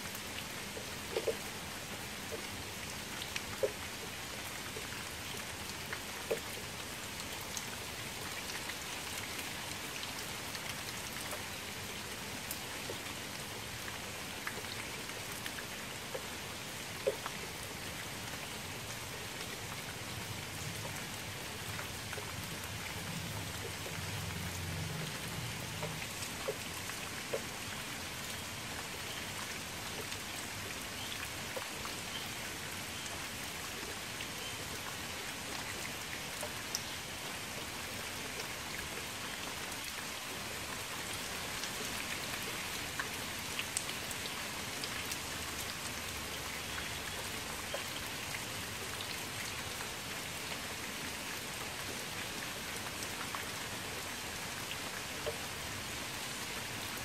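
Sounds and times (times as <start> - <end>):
rain falling into water: 0.0 - 57.0.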